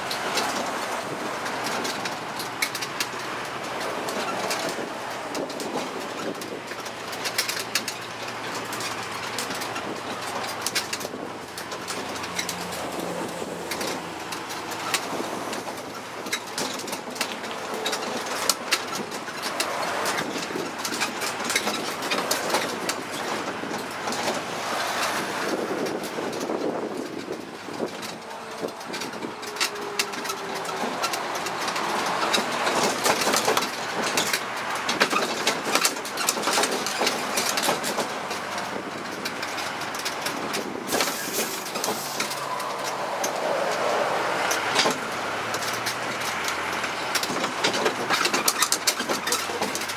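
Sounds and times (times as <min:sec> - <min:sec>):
carriage rattling and knocking: 0:00.0 - 0:49.9
road train engine and road noise: 0:00.0 - 0:49.9.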